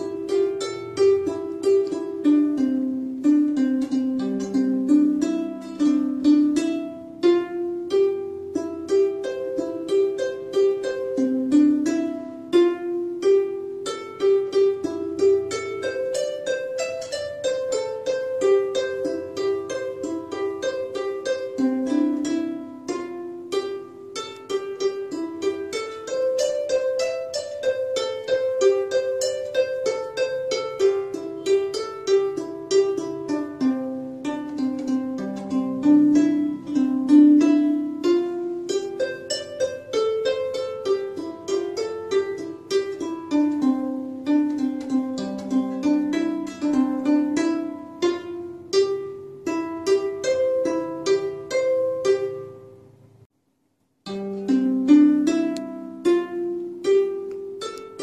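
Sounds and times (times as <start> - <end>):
plucked string melody: 0.0 - 53.3, 54.0 - 58.0.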